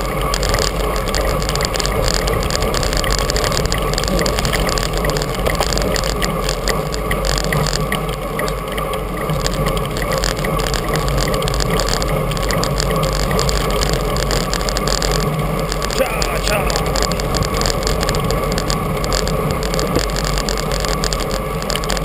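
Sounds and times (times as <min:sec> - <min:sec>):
bicycle road noise: 0:00.0 - 0:22.0.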